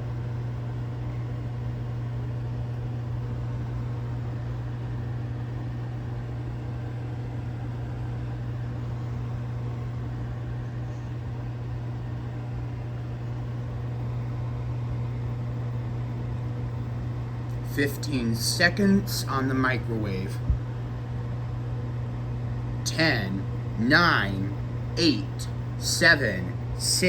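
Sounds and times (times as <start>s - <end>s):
microwave oven humming: 0.0s - 27.0s.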